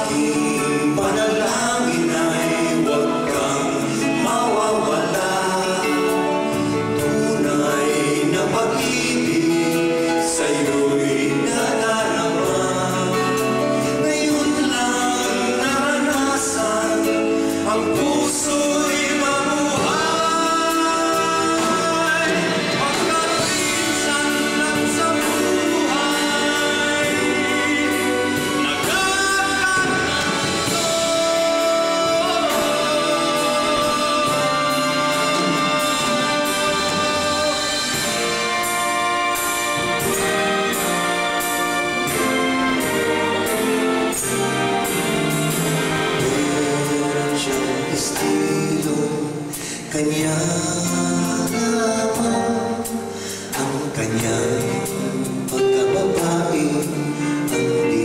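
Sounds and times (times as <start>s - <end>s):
live band playing: 0.0s - 58.0s
men singing in harmony: 0.0s - 58.0s.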